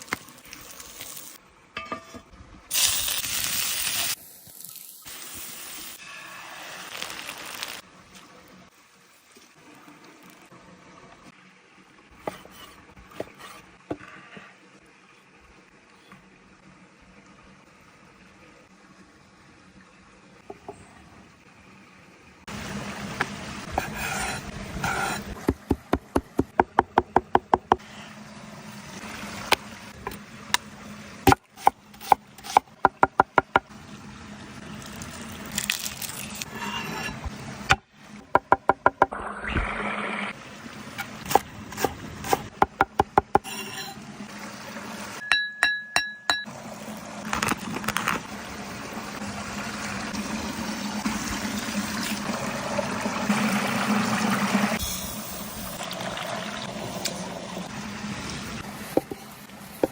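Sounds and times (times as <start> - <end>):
steady water-like noise: 5.0 - 59.9.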